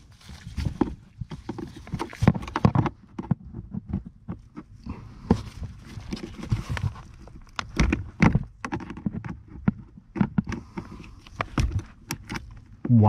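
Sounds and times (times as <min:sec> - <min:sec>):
plastic knocks and clicks: 0:00.6 - 0:12.9.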